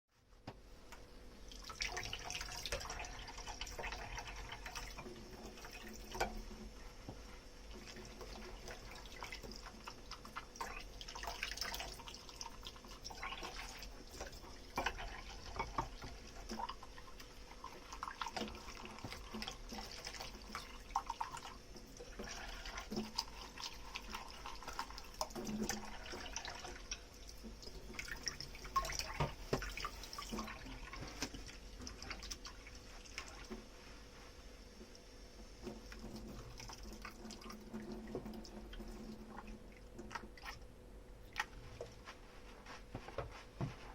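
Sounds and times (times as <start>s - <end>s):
water running from tap: 1.5s - 33.9s, 34.8s - 40.6s.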